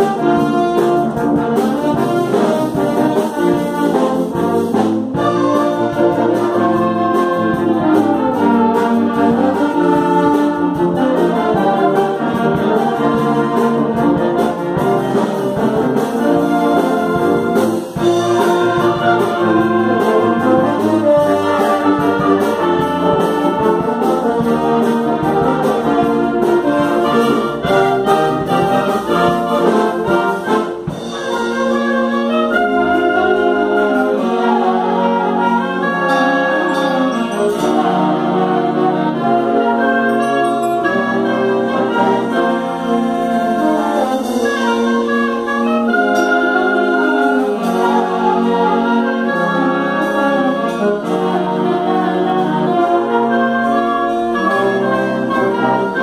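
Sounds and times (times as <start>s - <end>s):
wind band playing: 0.0s - 56.0s.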